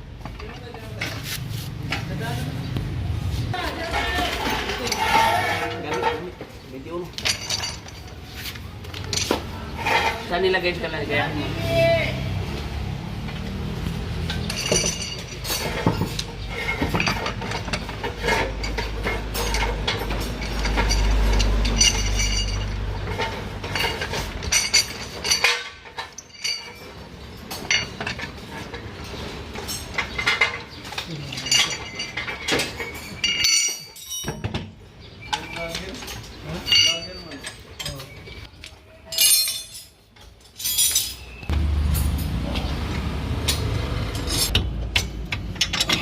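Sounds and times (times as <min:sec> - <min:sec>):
metal tools clinking and knocking: 0:00.1 - 0:02.4, 0:03.6 - 0:10.8, 0:13.2 - 0:42.7, 0:43.4 - 0:46.0.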